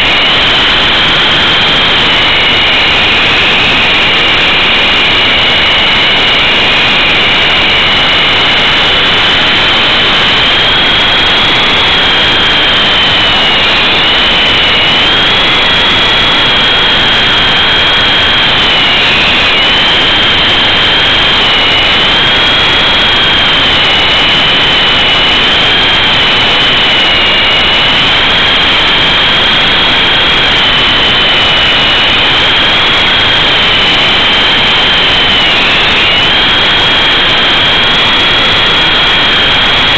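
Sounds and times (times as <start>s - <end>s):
electric motor high whine: 0.0s - 39.9s.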